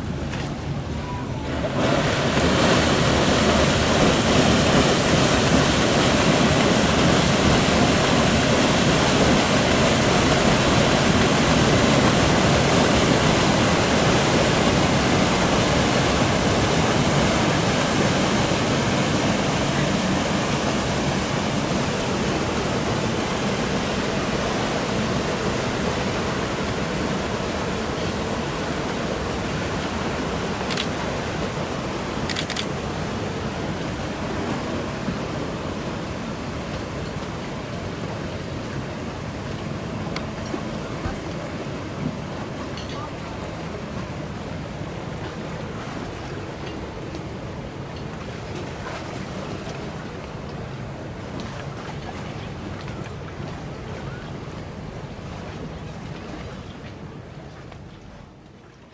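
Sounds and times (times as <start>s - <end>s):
paddle wheels churning water: 0.0s - 58.9s.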